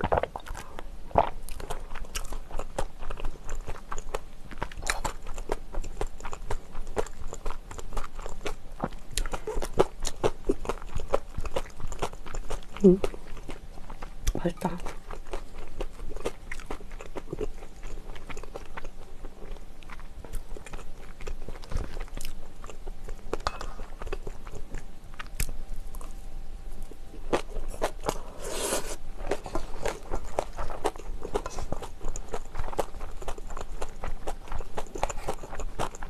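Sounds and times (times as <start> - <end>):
chewing and crunching food: 0.0 - 36.0.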